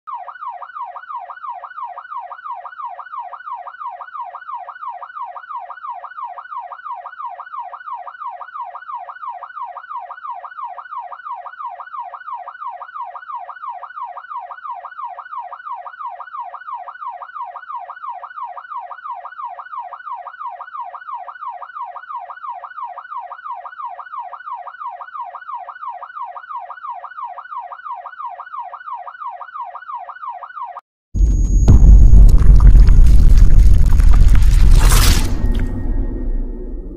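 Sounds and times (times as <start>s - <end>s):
police siren yelping: 0.1s - 32.0s.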